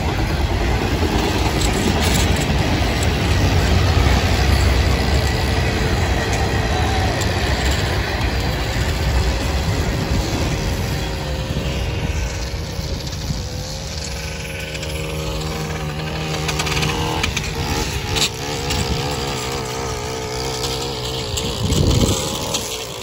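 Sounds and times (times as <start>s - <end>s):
freight cars rumbling past: 0.0s - 23.0s
small gas engine running: 0.0s - 23.0s.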